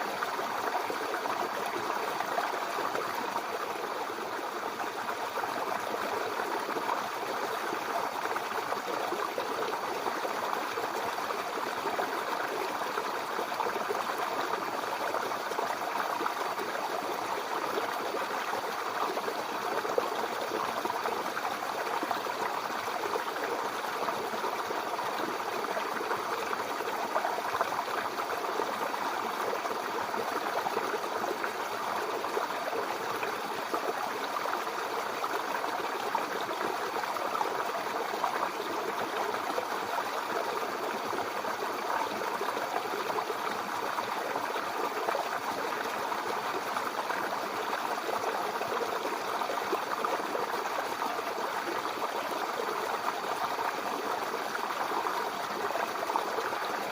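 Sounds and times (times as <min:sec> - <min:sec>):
brook burbling over stones: 0:00.0 - 0:56.9.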